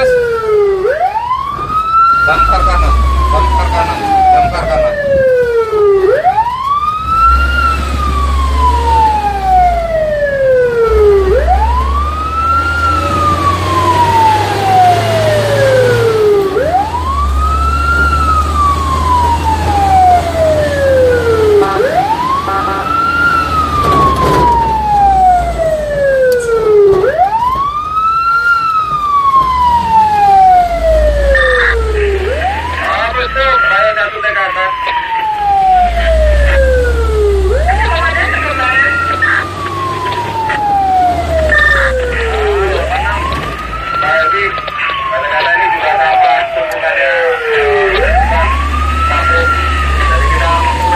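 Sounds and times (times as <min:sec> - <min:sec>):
fire truck siren wailing: 0:00.0 - 0:50.9
truck engine rumble: 0:00.0 - 0:50.9.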